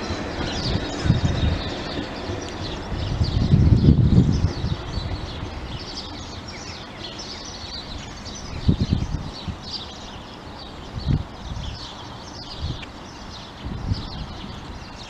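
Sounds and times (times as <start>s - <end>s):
small birds chirping: 0.0s - 15.0s
train engine low rumble: 0.0s - 15.0s.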